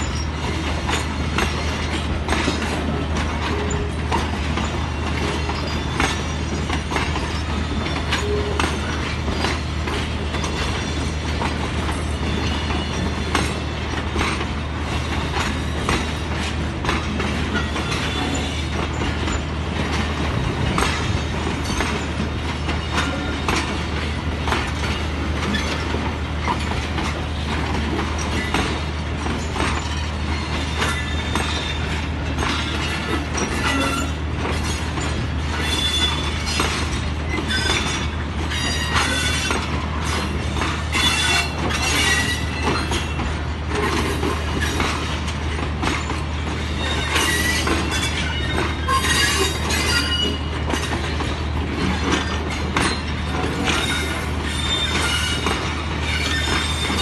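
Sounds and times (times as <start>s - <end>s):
train low rumble: 0.0s - 57.0s
train wheels clanking over rail joints: 0.0s - 57.0s.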